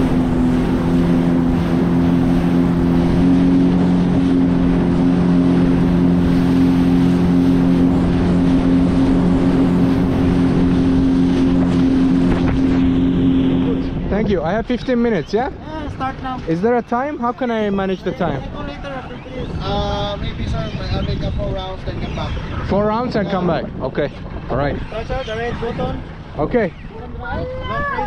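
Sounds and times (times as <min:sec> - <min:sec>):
jet ski engine droning: 0:00.0 - 0:28.0.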